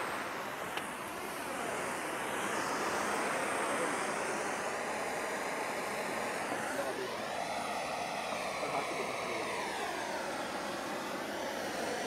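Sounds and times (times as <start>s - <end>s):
firework spraying sparks: 0.0s - 12.0s
gas torch flame hissing: 0.0s - 12.0s.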